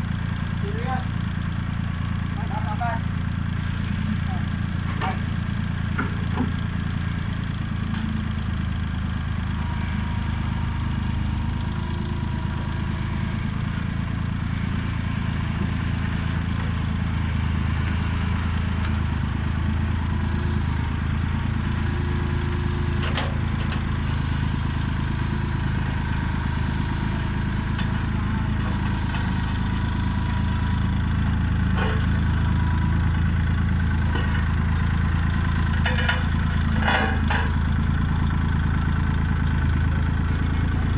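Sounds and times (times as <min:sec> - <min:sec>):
road roller engine running: 0:00.0 - 0:40.9.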